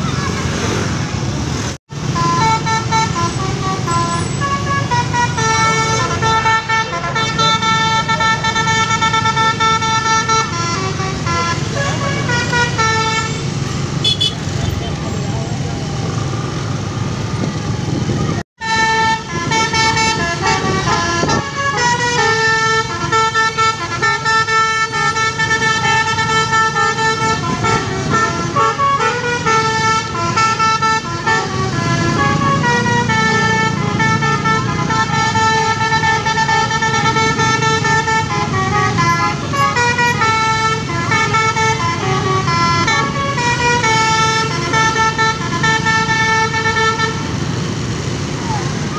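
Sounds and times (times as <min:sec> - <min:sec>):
motorbike engines running: 0:00.0 - 0:48.9
musical air horn tune: 0:02.1 - 0:14.4, 0:18.6 - 0:47.3.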